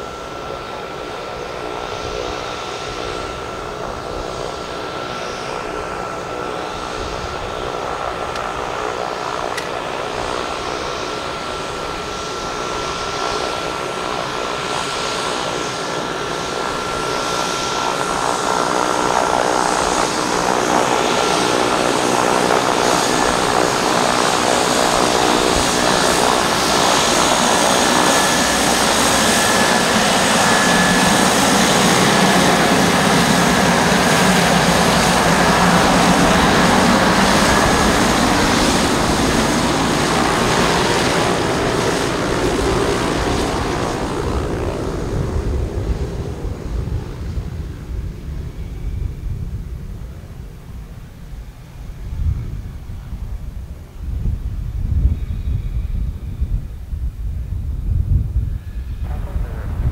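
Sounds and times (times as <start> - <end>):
steady engine whine: 0.0 - 59.9
turboprop aircraft taxiing: 0.0 - 59.9.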